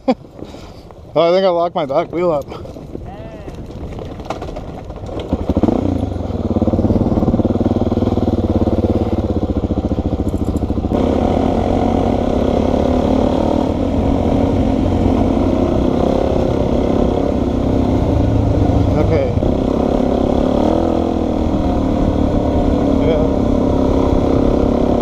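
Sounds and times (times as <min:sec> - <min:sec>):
dirt bike engine running: 0:02.2 - 0:25.0.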